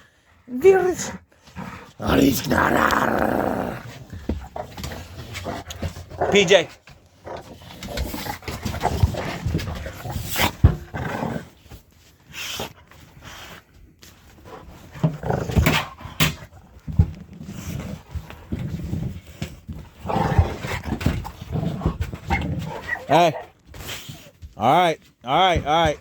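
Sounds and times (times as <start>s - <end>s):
dogs play-fighting: 1.2s - 24.6s.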